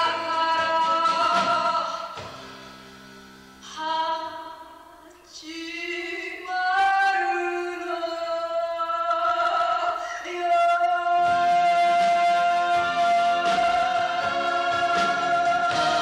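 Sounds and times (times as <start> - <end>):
woman singing into a microphone: 0.0 - 2.2, 3.6 - 16.0.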